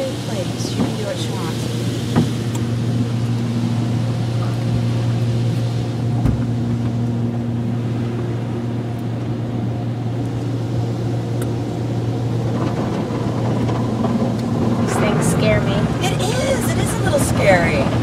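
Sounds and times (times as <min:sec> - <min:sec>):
car wash machinery hum: 0:00.0 - 0:18.0.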